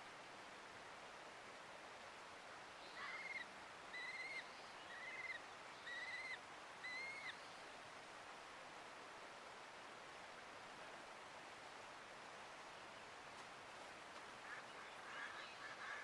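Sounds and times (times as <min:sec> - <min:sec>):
running water hiss: 0:00.0 - 0:16.0.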